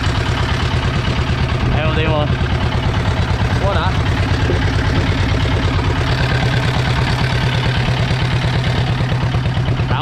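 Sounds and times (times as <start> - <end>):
boat engine throbbing: 0.0 - 10.0.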